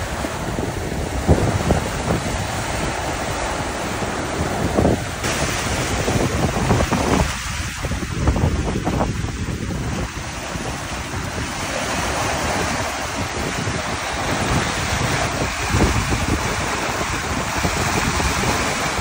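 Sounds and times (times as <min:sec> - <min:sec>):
sea waves rushing: 0:00.0 - 0:19.0
wind buffeting microphone: 0:00.0 - 0:19.0.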